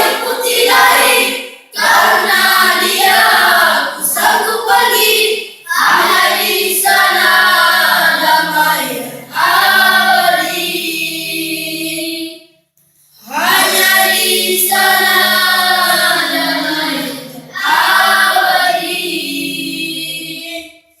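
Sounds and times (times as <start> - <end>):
group of voices singing: 0.0 - 12.5, 13.2 - 20.8.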